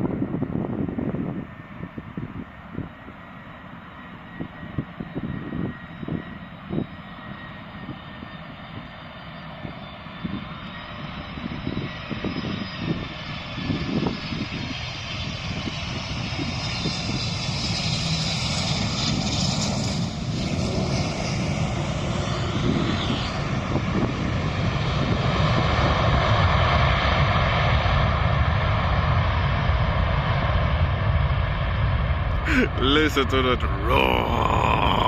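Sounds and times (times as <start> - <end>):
jet airliner engine roar: 0.0 - 35.0.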